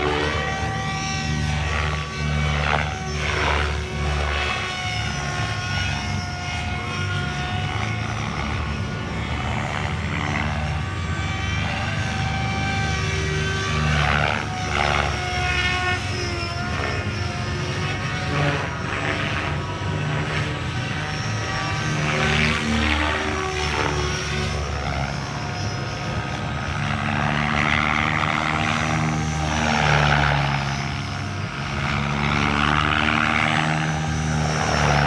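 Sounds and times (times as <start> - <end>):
helicopter motor and rotor whine: 0.0 - 35.0
low rotor rumble: 0.0 - 35.0.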